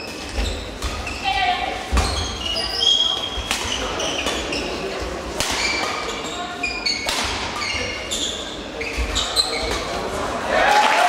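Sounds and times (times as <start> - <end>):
shoes squeaking on hall floor: 0.0 - 10.2.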